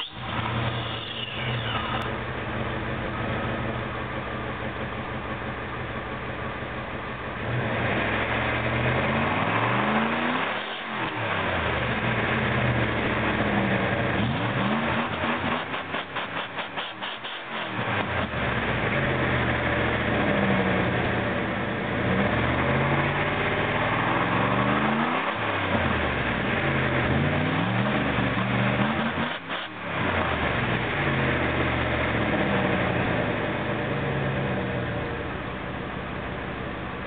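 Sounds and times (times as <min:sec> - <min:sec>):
engine revving: 0:00.0 - 0:02.6, 0:07.4 - 0:35.4.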